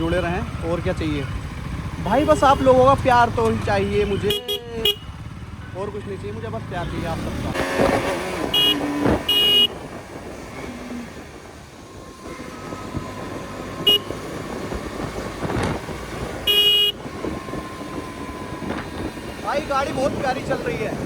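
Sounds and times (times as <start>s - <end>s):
traffic noise: 0.0s - 21.0s
vehicle horns honking: 2.0s - 5.8s, 6.6s - 21.0s.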